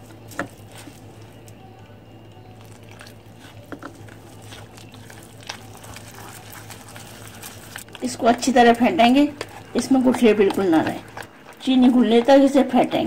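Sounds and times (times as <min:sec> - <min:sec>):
steady low hum: 0:00.0 - 0:13.0
spatula squelching in batter: 0:02.4 - 0:13.0.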